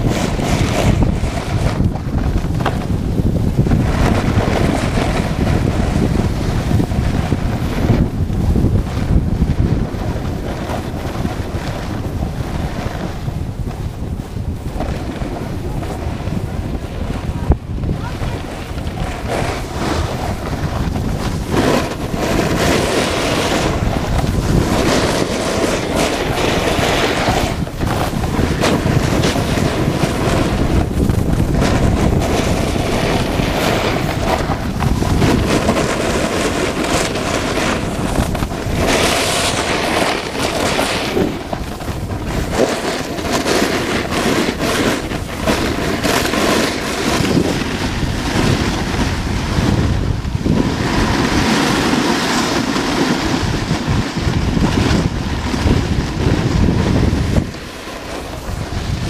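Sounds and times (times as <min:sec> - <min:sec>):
snowboard edge scraping snow: 0:00.0 - 0:59.0
wind buffeting microphone: 0:00.0 - 0:59.0.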